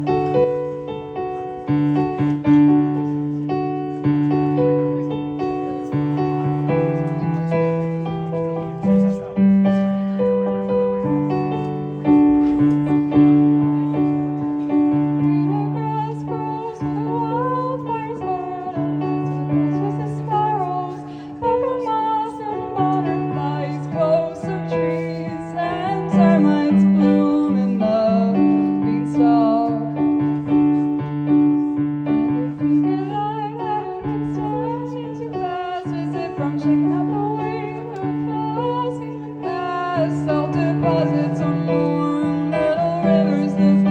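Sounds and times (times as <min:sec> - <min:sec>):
piano playing low chords: 0:00.0 - 0:43.9
person singing: 0:06.7 - 0:43.9.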